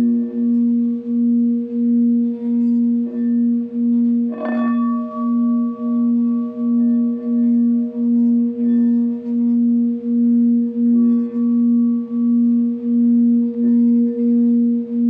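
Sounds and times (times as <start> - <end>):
singing bowl low tone: 0.0 - 15.0
struck higher ringing tone: 0.0 - 15.0.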